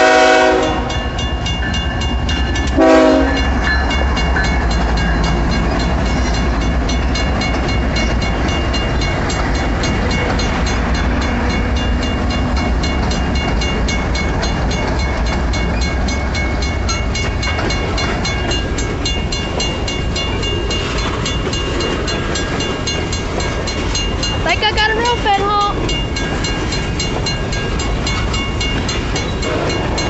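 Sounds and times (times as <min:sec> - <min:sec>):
freight cars rumbling on rails: 0:00.0 - 0:30.0.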